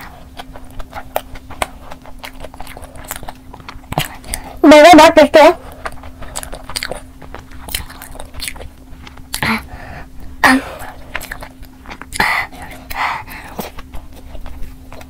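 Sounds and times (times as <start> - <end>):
chewing with wet mouth smacks: 0.0 - 4.6, 5.6 - 9.5, 10.8 - 15.0
faint steady hum: 0.0 - 15.0.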